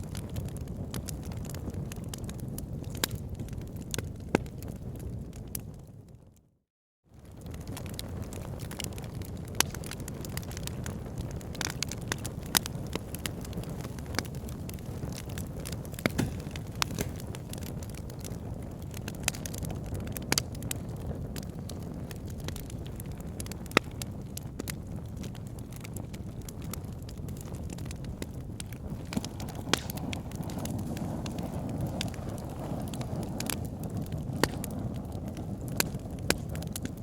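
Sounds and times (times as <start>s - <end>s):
log fire crackling and popping: 0.0s - 6.2s, 7.2s - 37.0s.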